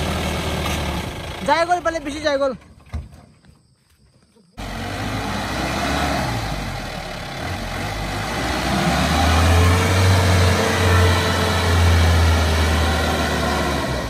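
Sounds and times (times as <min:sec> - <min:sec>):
diesel engine under load: 0:00.0 - 0:03.2, 0:04.6 - 0:14.0.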